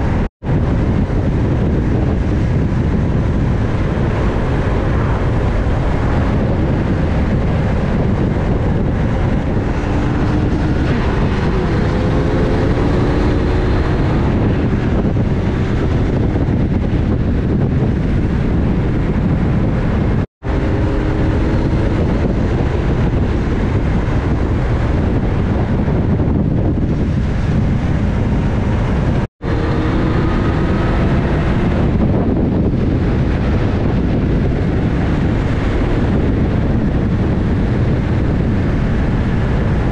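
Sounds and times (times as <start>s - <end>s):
motorcycle engine: 0.0s - 39.9s
road noise: 0.0s - 39.9s
wind rush on microphone: 0.0s - 39.9s.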